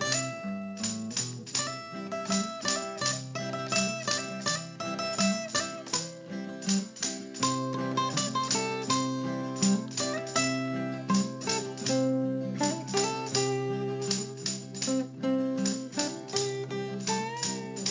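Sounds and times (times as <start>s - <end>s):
plucked guitar music: 0.0s - 17.9s.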